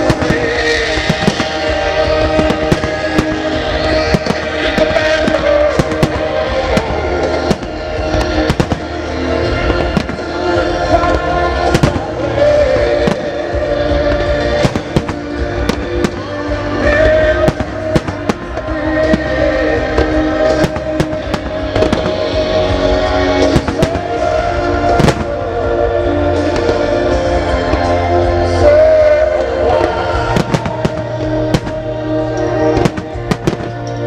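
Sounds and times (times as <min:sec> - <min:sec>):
fireworks bangs: 0:00.0 - 0:34.0
musical theatre melodies: 0:00.0 - 0:34.0.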